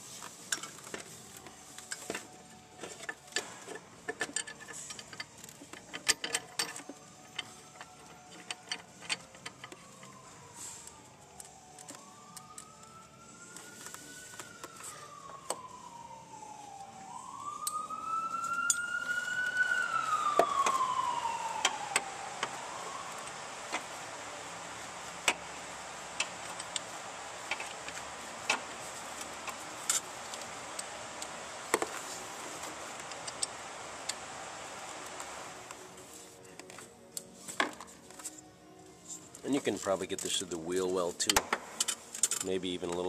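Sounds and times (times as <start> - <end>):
emergency vehicle wail siren: 0.1 - 38.0.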